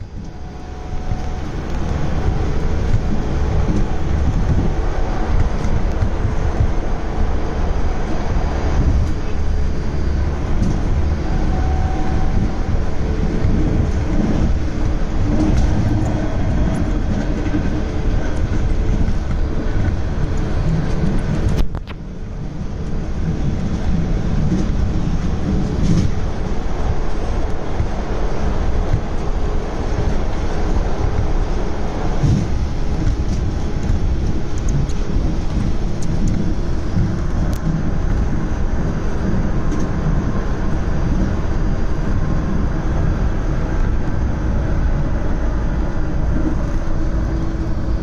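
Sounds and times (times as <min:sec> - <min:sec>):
subway train rumbling on rails: 0:00.0 - 0:48.0.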